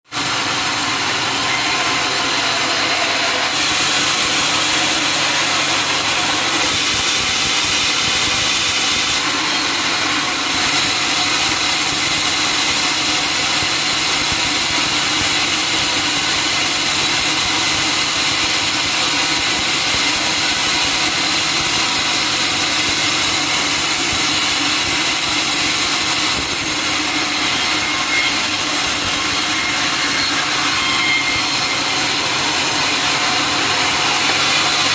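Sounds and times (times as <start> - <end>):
sawmill saw cutting log: 0.1 - 34.9.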